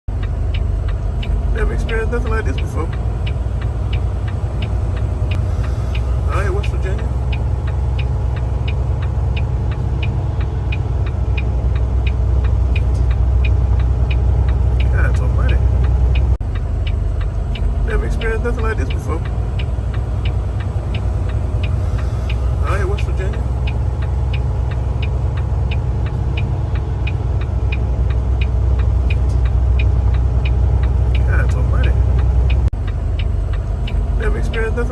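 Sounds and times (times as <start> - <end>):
engine hum: 0.0 - 34.9
turn signal ticking: 0.0 - 34.9.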